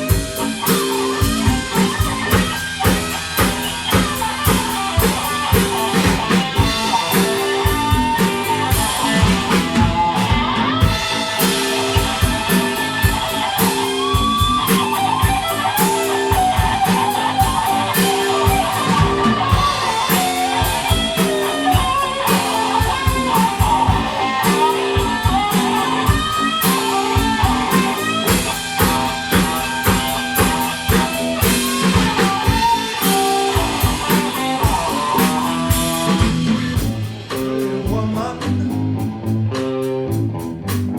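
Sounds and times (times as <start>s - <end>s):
drum beat: 0.0s - 39.1s
electric guitar lead line: 0.0s - 40.9s.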